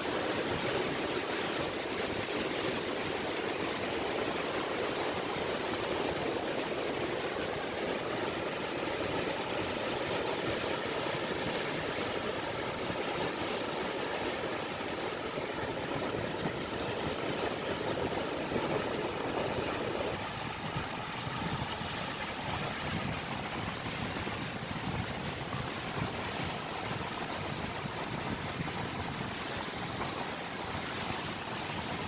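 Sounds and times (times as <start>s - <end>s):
small sea waves washing on shore: 0.0s - 32.0s.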